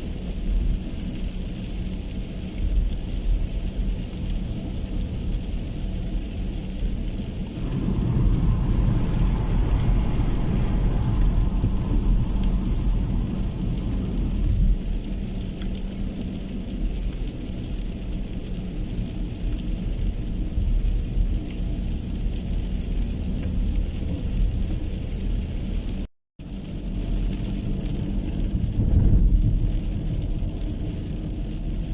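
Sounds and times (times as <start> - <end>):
deep rumble: 0.0 - 31.9
heavy rain falling: 0.0 - 31.9.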